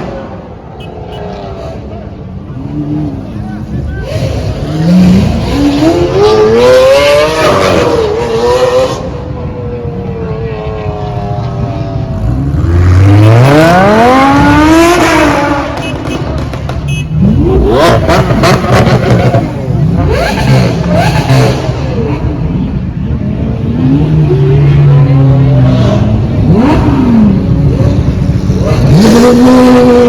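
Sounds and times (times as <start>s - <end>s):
car engine accelerating hard: 1.1s - 30.0s.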